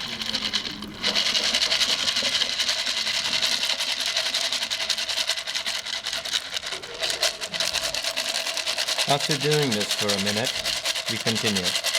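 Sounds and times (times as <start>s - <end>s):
water running through a sieve: 0.0s - 11.9s.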